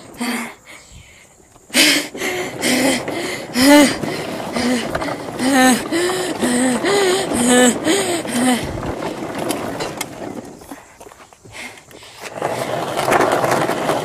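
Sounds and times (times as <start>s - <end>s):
plastic wheels rolling on asphalt: 0.0s - 14.0s.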